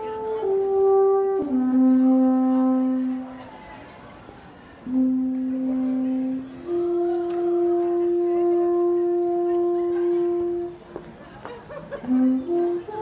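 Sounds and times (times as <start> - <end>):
alphorn playing held notes: 0.0 - 3.4, 4.8 - 11.0, 12.0 - 13.0.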